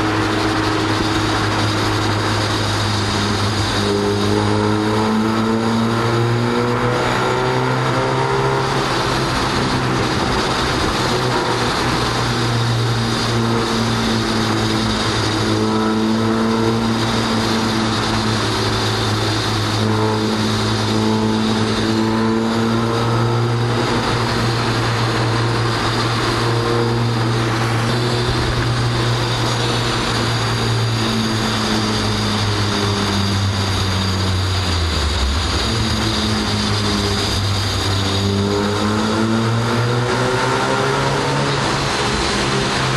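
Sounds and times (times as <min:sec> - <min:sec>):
car engine and exhaust cruising: 0:00.0 - 0:42.9.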